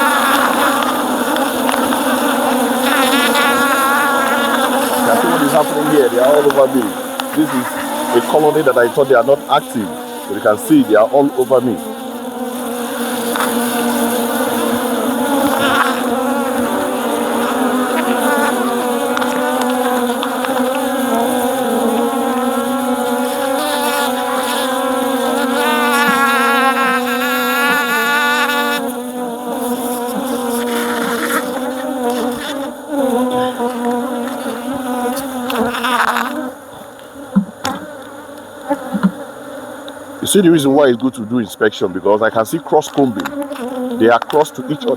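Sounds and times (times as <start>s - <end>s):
honeybees buzzing: 0.0s - 44.9s.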